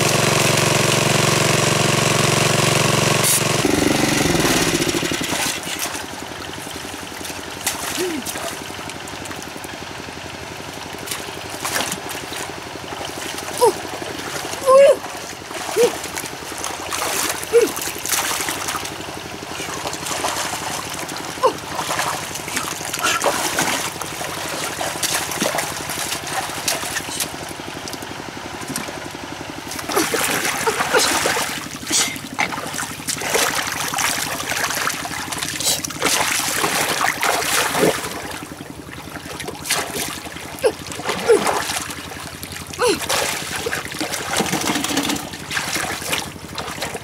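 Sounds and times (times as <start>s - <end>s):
water streaming from net: 0.0s - 47.0s
water splashing and sloshing: 3.3s - 47.0s.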